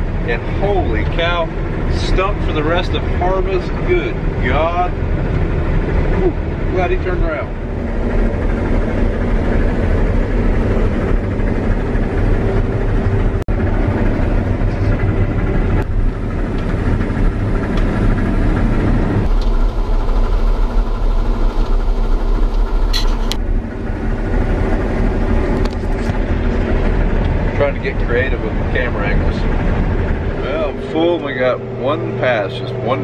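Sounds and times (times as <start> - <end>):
combine harvester droning: 0.0 - 33.0.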